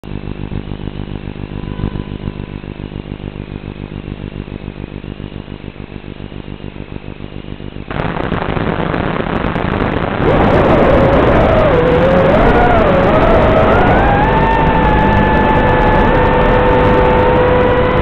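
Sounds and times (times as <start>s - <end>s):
loud static hiss: 0.0s - 18.0s
pulsing electrical buzz: 0.0s - 18.0s.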